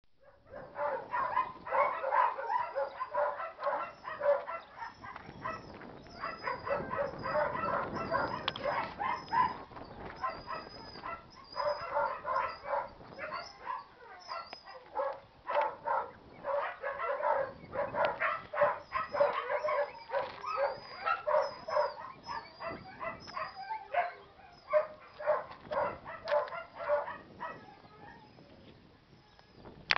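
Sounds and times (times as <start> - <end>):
dogs barking: 0.2 - 28.3
birds chirping faintly: 0.2 - 29.8.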